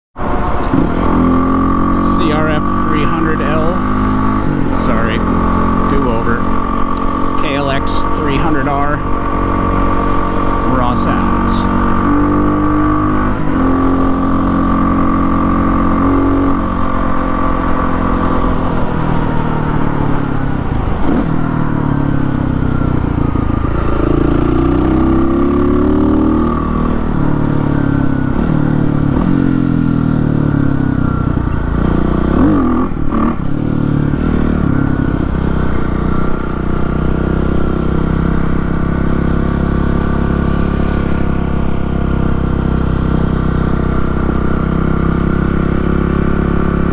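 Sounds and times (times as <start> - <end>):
dirt bike engine revving: 0.2 - 46.9.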